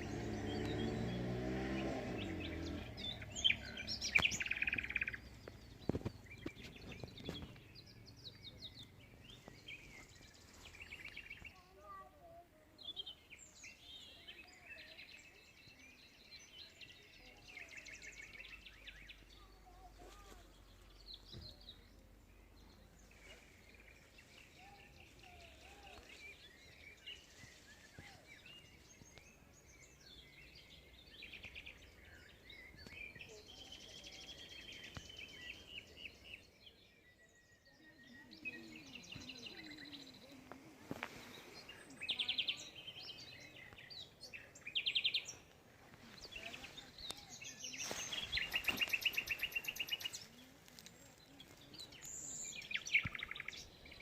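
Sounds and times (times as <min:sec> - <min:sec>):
faint birds chirping: 0:00.0 - 0:54.0.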